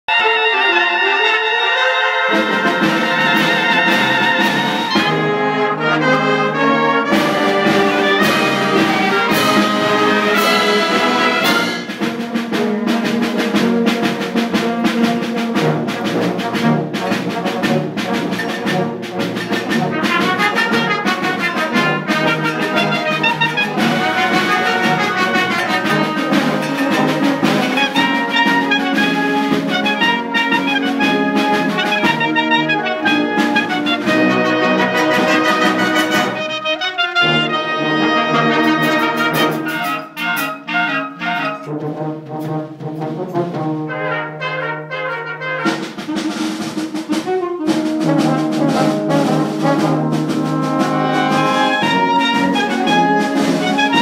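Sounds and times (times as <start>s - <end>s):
community band playing: 0.0s - 54.0s
trumpets and trombones: 0.0s - 54.0s.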